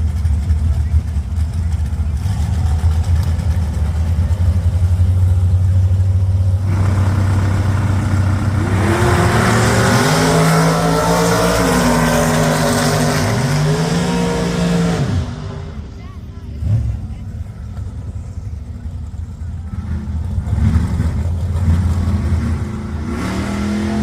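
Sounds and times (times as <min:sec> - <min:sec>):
drag racing car engine revving: 0:00.0 - 0:16.0, 0:19.0 - 0:24.0.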